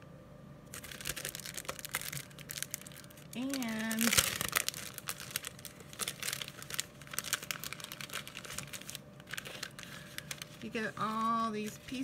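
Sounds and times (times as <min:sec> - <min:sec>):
cellophane crinkling and rustling: 0:00.7 - 0:12.0.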